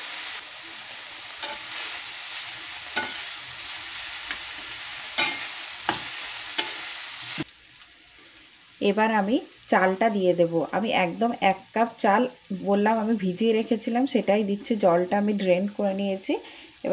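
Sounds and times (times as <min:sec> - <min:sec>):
vegetables sizzling in hot oil: 0:00.0 - 0:16.9.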